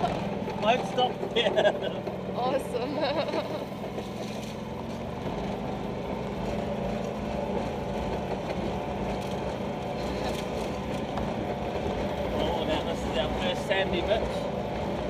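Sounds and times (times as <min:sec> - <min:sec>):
car engine running: 0:00.0 - 0:15.0
road noise on gravel: 0:00.0 - 0:15.0.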